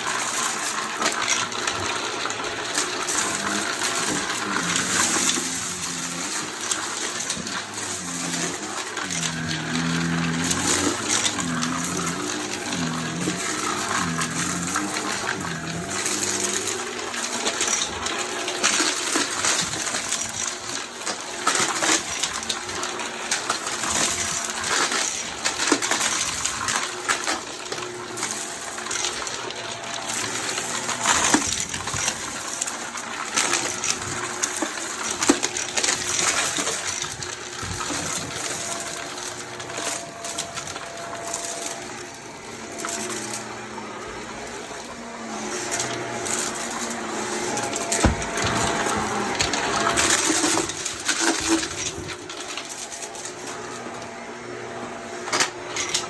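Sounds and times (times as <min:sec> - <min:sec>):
debris rattling through hose: 0:00.0 - 0:54.0
vacuum cleaner motor hum: 0:00.0 - 0:56.0.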